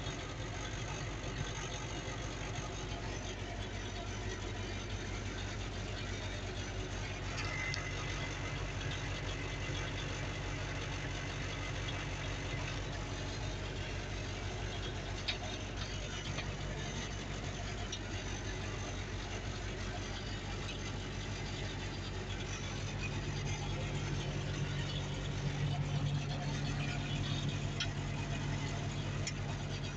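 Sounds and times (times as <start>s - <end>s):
engine idling heard from cab: 0.0s - 29.9s.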